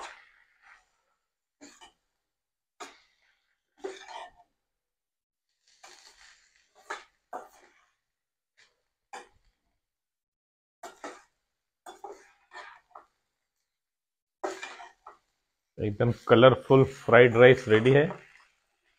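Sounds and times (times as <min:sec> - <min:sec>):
spatula scraping a wok: 0:00.0 - 0:02.2, 0:02.8 - 0:04.6, 0:05.5 - 0:09.6, 0:10.8 - 0:13.4, 0:14.4 - 0:18.9.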